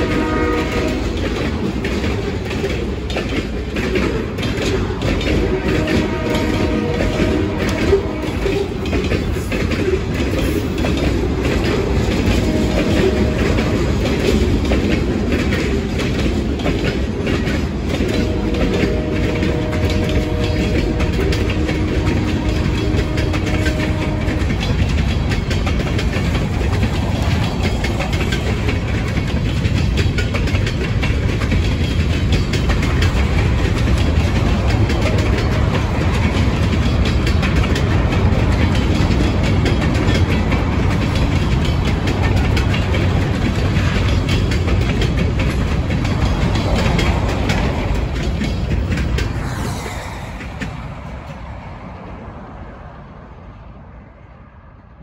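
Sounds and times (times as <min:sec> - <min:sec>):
wheels clicking over rail joints: 0:00.0 - 0:51.8
freight train rumbling past: 0:00.0 - 0:55.0.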